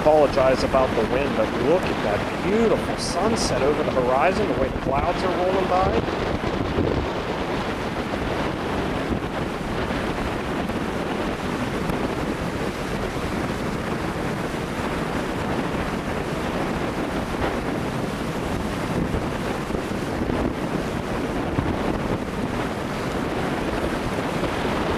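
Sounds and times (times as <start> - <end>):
ocean surf washing: 0.0 - 24.9
wind buffeting microphone: 0.0 - 24.9.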